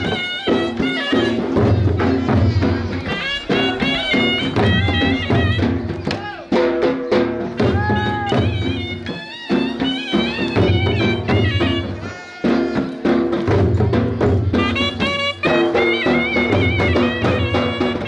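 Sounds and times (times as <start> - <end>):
shehnai ornamented melody: 0.0 - 6.1, 7.6 - 18.0
dhol drumming: 0.0 - 18.0.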